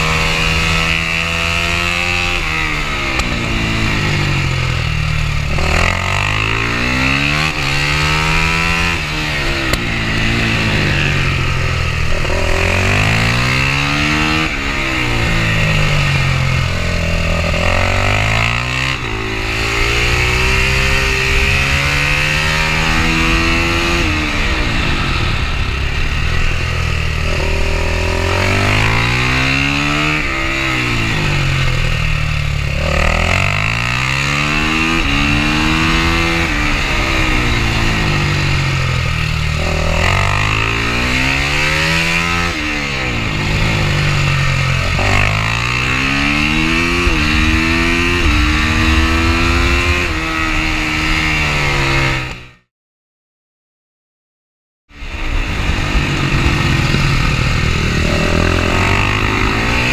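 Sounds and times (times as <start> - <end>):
motorcycle engine revving through gears: 0.0 - 52.7, 54.9 - 59.9.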